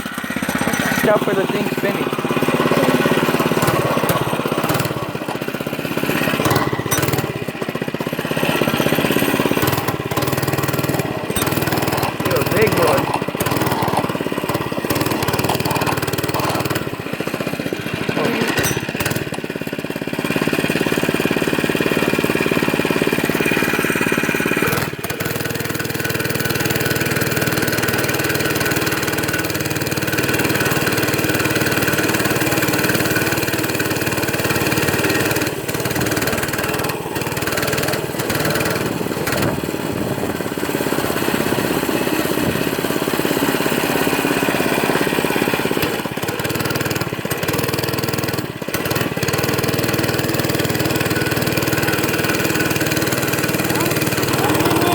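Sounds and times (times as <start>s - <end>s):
small motorcycle engine running: 0.0s - 54.9s.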